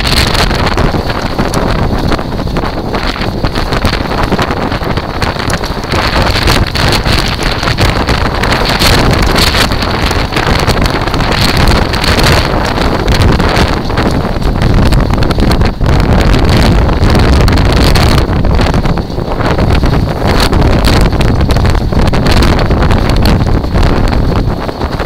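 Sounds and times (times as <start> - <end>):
wheels crunching on stones: 0.0 - 25.0
wind buffeting microphone: 0.0 - 25.0.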